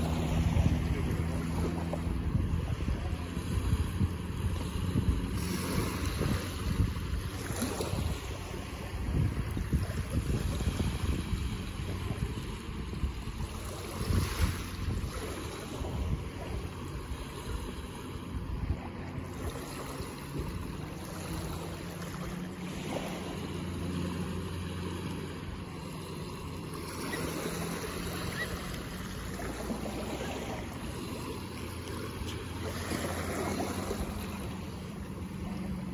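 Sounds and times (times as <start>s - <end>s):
small waves breaking on beach: 0.0s - 35.9s.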